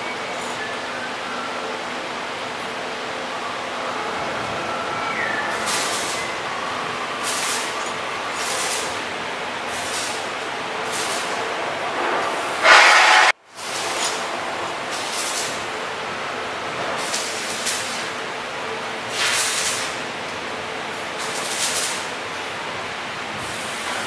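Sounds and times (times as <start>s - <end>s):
steady mechanical noise: 0.0s - 24.0s.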